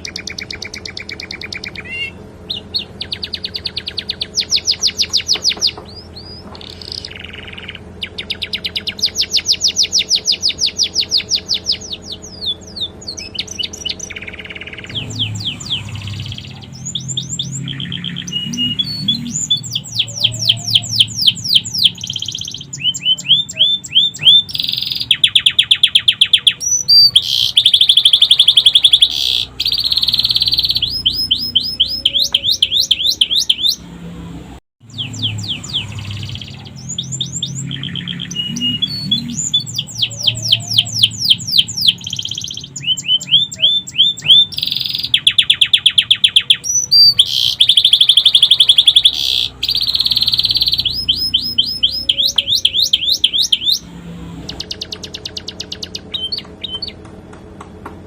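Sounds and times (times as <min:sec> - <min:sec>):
canary singing trills: 0:00.0 - 0:57.1.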